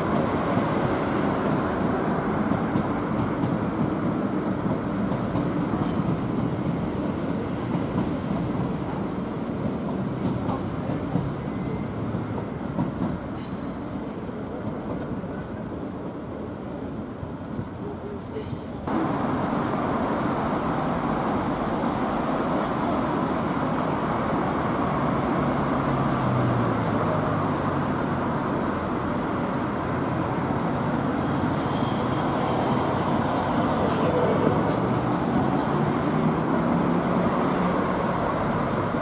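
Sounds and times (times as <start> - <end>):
road traffic: 0.0 - 39.0.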